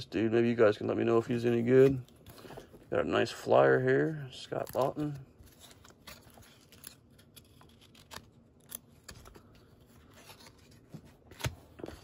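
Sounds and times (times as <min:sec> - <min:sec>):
cards rustling: 0:01.2 - 0:12.0.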